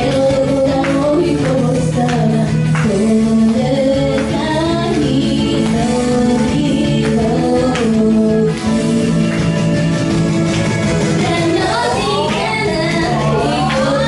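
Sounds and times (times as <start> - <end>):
woman singing pop song: 0.0 - 9.7, 11.0 - 14.0
instrumental accompaniment: 0.0 - 14.0.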